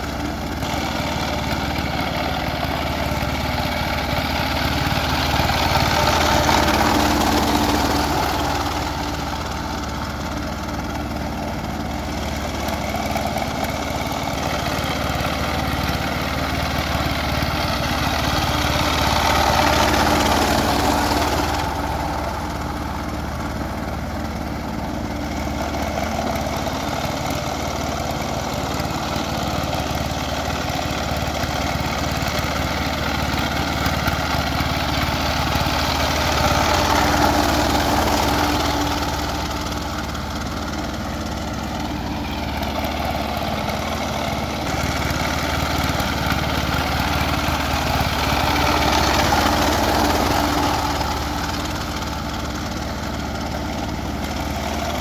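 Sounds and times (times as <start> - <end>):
power tiller engine running: 0.0 - 55.0.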